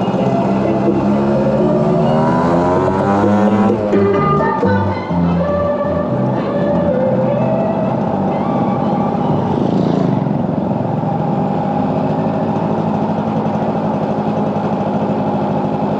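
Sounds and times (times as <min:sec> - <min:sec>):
two-stroke motorcycle engine running: 0:00.0 - 0:15.9.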